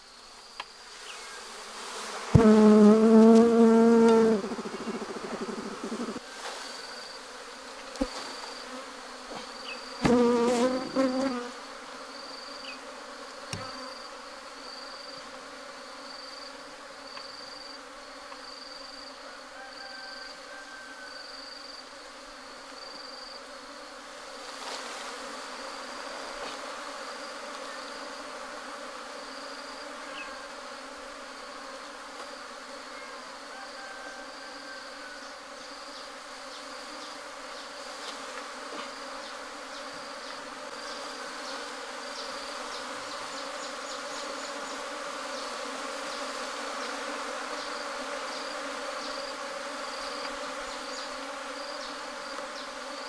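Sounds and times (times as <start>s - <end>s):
bee swarm buzzing: 0.1s - 19.3s, 21.5s - 53.0s.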